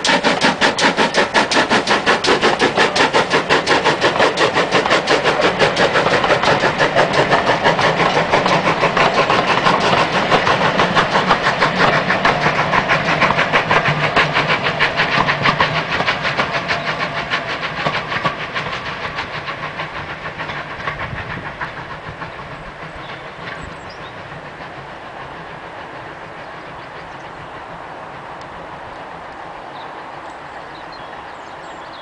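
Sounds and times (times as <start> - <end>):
steam locomotive chuffing: 0.0 - 32.0
train wheel noise: 0.0 - 32.0.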